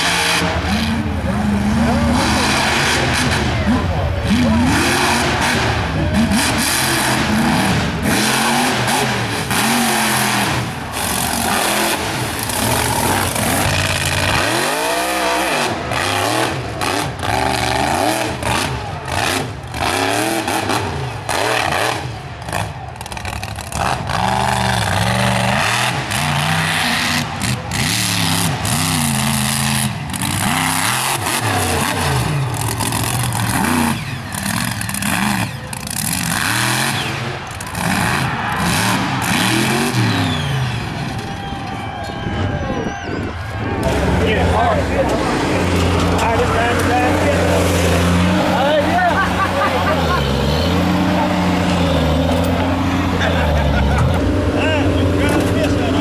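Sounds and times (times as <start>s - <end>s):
truck engines revving hard: 0.0s - 56.0s.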